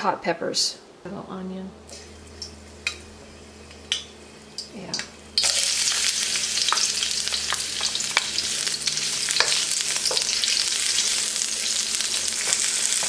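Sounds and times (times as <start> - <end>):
vegetables sizzling in hot oil: 1.9 - 13.0.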